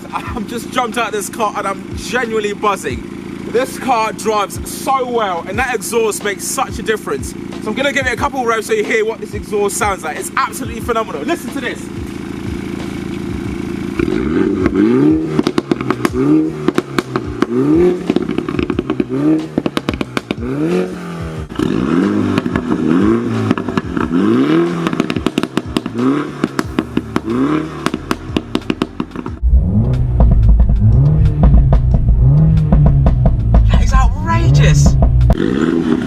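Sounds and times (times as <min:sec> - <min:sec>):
car engine revving: 0:00.0 - 0:36.0
exhaust crackling and popping: 0:00.0 - 0:36.0.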